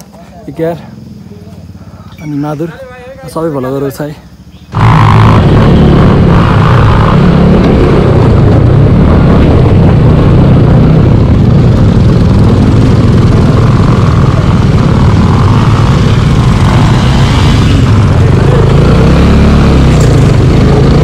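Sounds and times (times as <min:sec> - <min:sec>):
motorcycle engine running: 0:03.8 - 0:21.0.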